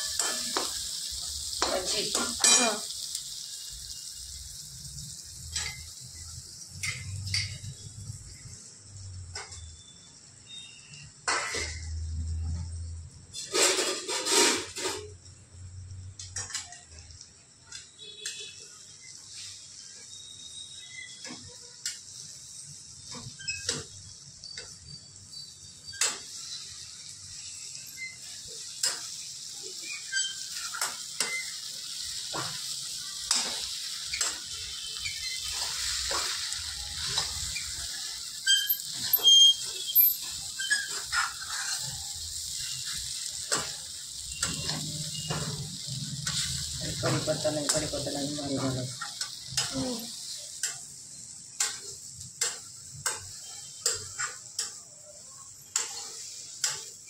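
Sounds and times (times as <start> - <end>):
metal spatula scraping a pan: 0.0 - 3.2, 5.3 - 9.9, 10.5 - 15.3, 22.6 - 57.0
food sizzling in a pan: 0.0 - 57.0.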